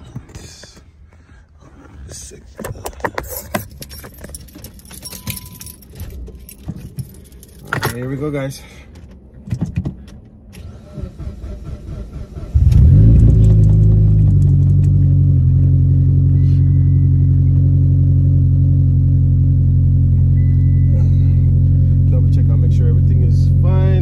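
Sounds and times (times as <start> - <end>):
car engine starting and idling: 2.2 - 24.0.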